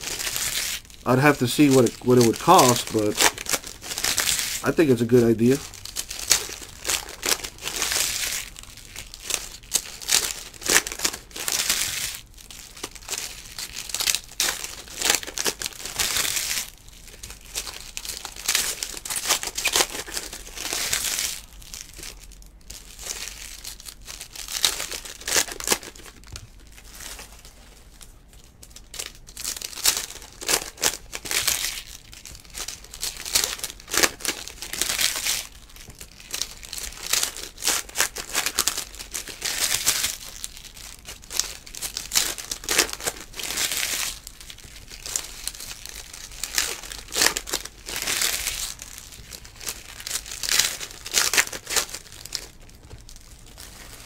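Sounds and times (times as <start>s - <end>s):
foil wrappers crinkling and tearing: 0.0s - 54.0s.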